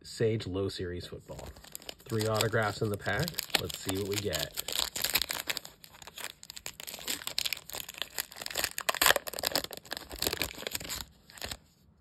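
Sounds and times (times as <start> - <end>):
foil wrapper crinkling: 1.4 - 11.7.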